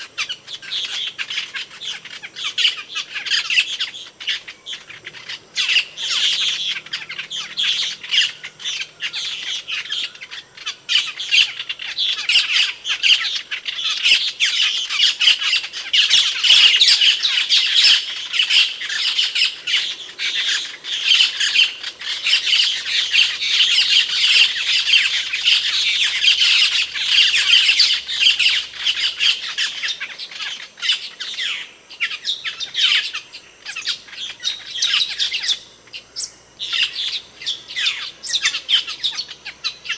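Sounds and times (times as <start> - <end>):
starlings calling shrilly: 0.0 - 39.9.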